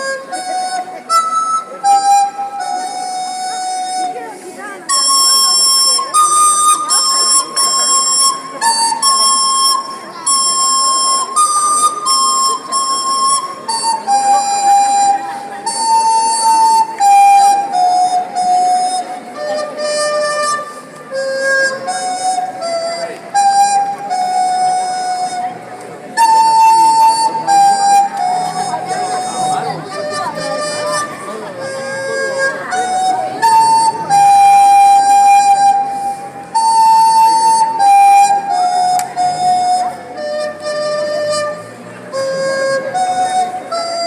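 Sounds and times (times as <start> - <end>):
flute playing slow melody: 0.0 - 44.0.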